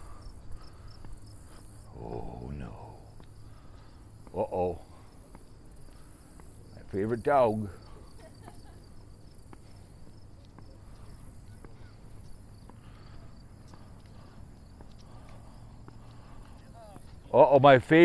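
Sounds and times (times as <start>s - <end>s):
footsteps on pavement: 0.0s - 18.0s
insects chirring: 0.0s - 18.0s.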